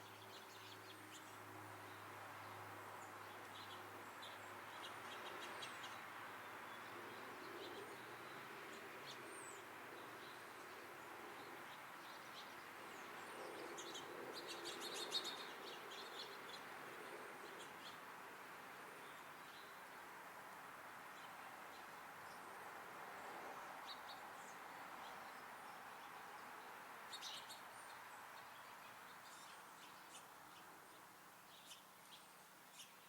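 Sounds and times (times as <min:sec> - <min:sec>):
small songbirds chirping: 0:00.0 - 0:33.0
steady background hiss: 0:00.0 - 0:33.0.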